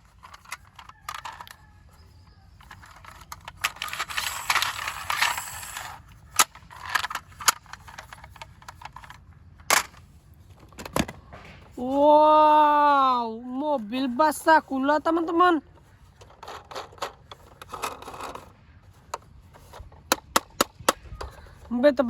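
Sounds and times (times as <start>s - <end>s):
toys clicking and knocking: 0.0s - 11.8s, 14.4s - 21.8s
plastic toys rattling: 0.0s - 12.1s, 13.8s - 22.0s.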